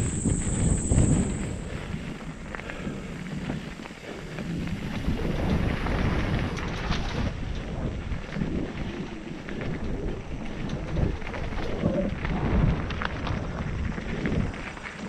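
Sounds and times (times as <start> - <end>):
mountain bike rumbling and rattling: 0.0 - 15.0
wind buffeting microphone: 0.0 - 15.0.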